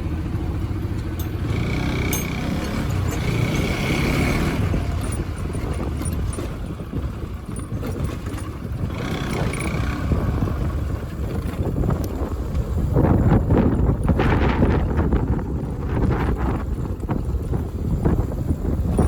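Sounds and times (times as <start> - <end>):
motorcycle engine running: 0.0 - 19.0
wind rush on microphone: 0.0 - 19.0.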